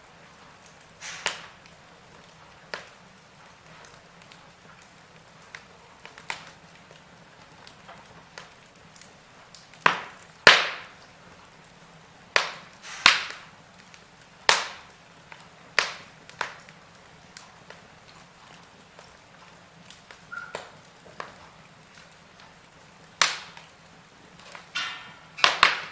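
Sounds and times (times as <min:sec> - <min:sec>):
faint steady hiss: 0:00.0 - 0:25.9
wood fire crackling: 0:00.0 - 0:25.9.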